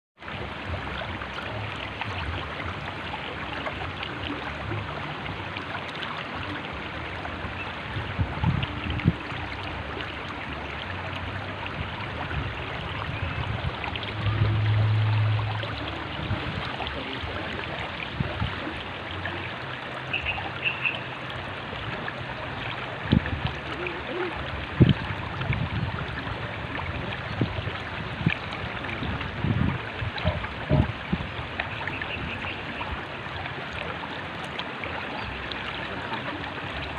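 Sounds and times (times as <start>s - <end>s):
low thumps and gurgles: 0.2s - 36.9s
river water rushing over rocks: 0.2s - 36.9s.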